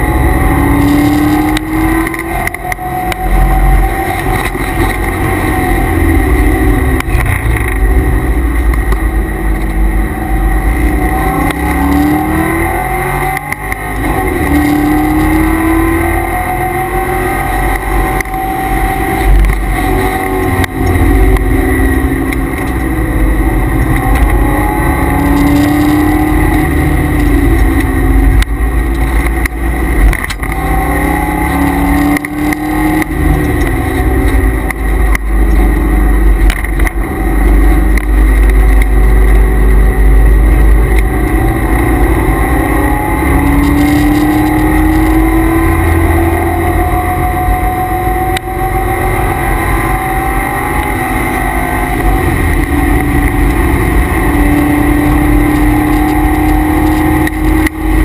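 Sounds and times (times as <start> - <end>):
car engine accelerating: 0.0 - 58.0
high transmission whine: 0.0 - 58.0.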